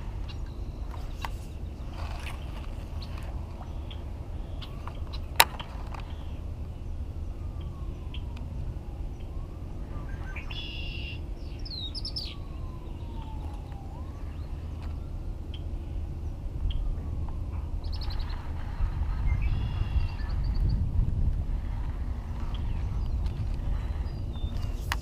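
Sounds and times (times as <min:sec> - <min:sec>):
birds chirping: 0:00.0 - 0:20.9, 0:21.5 - 0:25.0
distant siren wailing: 0:00.0 - 0:25.0
low rumble: 0:00.0 - 0:25.0.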